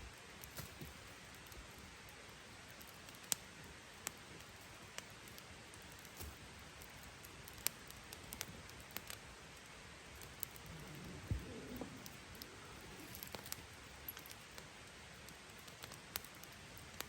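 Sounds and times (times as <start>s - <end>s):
campfire crackling: 0.0s - 17.0s
faint steady hiss: 0.0s - 17.0s.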